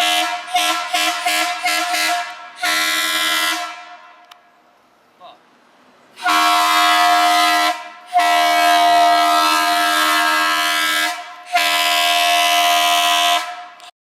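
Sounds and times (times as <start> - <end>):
air horn blasts: 0.0 - 4.2, 6.2 - 13.9.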